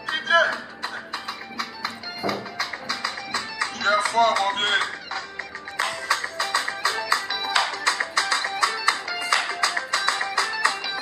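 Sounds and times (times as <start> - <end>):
steady beat: 0.0 - 11.0
plucked guitar-like music: 0.9 - 11.0.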